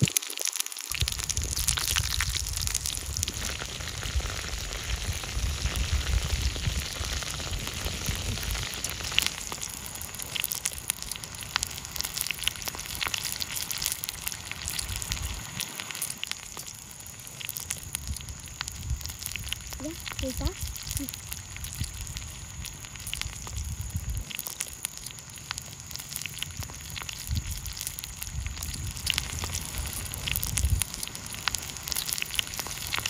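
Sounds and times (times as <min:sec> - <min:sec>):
frying in hot oil sizzle: 0:00.0 - 0:33.0.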